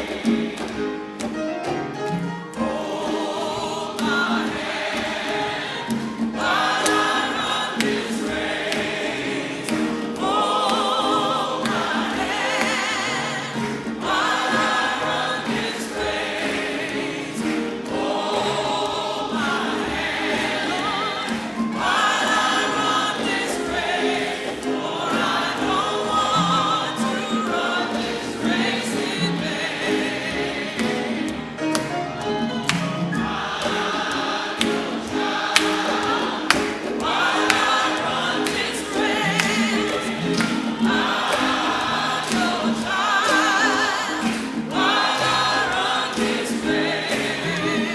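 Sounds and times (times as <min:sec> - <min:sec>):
choir singing a hymn: 0:00.0 - 0:47.9
musical accompaniment: 0:00.0 - 0:47.9.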